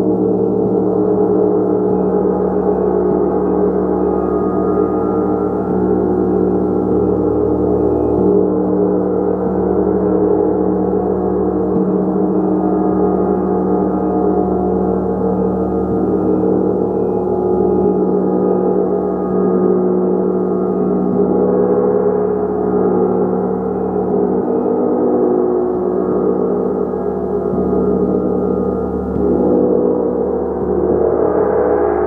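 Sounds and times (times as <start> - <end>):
large gong ringing: 0.0 - 32.0.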